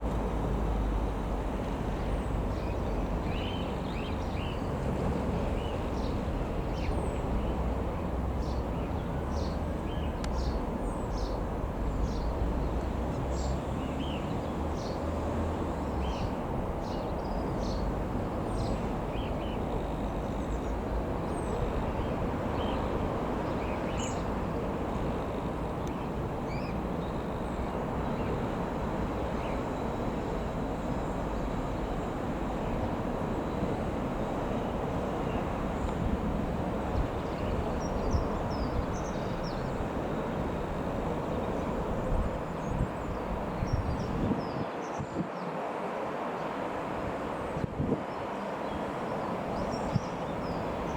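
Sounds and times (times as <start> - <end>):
small birds chirping: 2.0 - 45.5.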